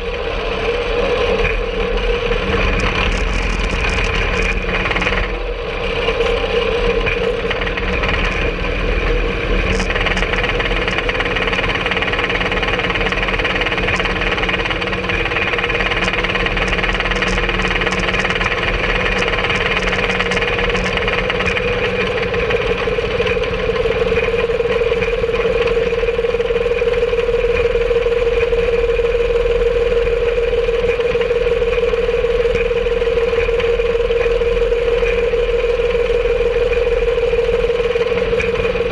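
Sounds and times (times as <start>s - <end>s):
rail cart engine whining: 0.0s - 38.9s.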